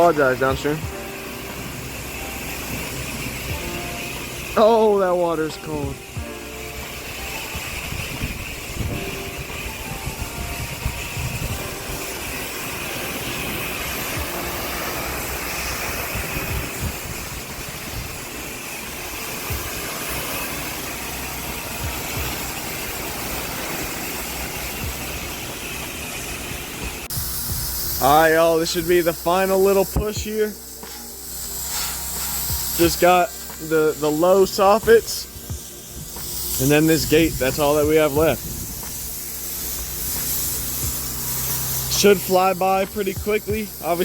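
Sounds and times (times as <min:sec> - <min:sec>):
pressure washer water jet hiss: 0:00.0 - 0:44.0
pump engine running: 0:00.0 - 0:44.0.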